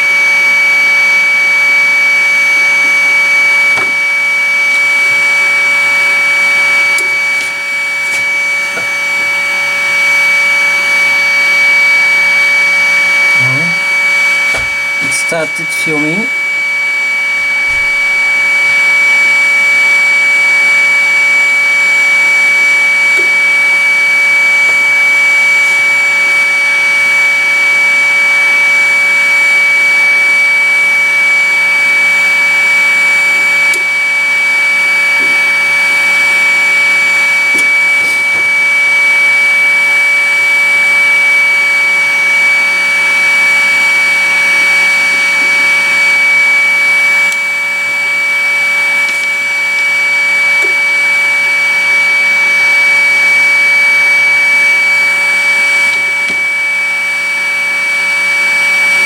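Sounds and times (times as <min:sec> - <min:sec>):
electric blower whine: 0:00.0 - 0:59.0.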